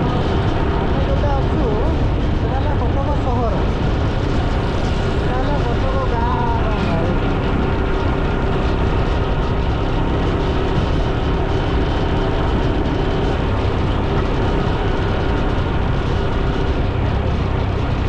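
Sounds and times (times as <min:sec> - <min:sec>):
motorcycle engine cruising: 0:00.0 - 0:18.0
wind rush on microphone: 0:00.0 - 0:18.0.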